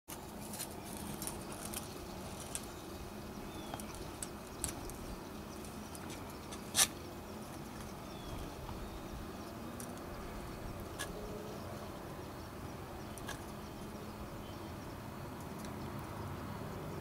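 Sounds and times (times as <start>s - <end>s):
leaves rustling against camera: 0.1s - 14.5s
outdoor background noise: 0.1s - 17.0s.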